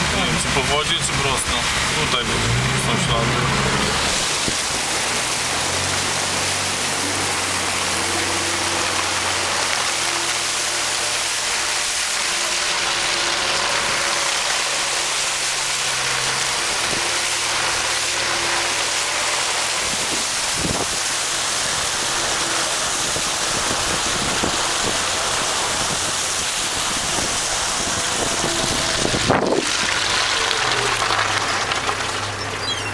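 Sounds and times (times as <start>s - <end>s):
car engine running: 0.0s - 32.9s
water splashing from wheels: 0.0s - 32.9s.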